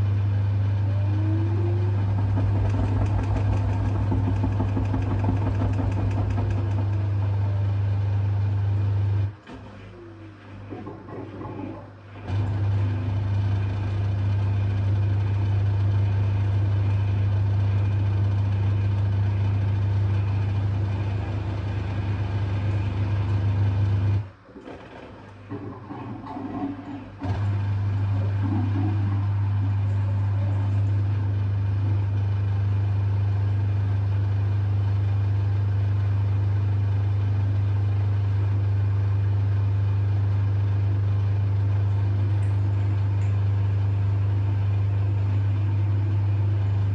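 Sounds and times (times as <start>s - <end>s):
drain pump humming: 0.0s - 46.9s.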